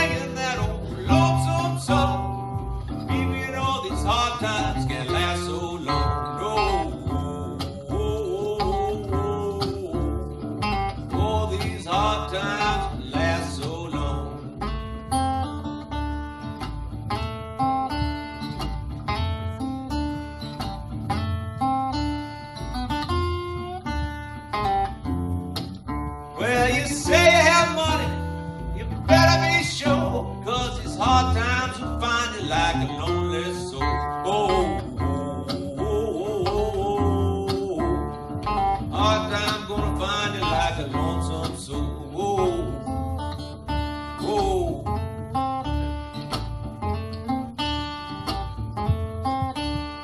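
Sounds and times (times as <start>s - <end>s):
acoustic blues band playing: 0.0s - 50.0s
acoustic guitar picking quick notes: 0.0s - 50.0s
low bass line: 0.0s - 50.0s.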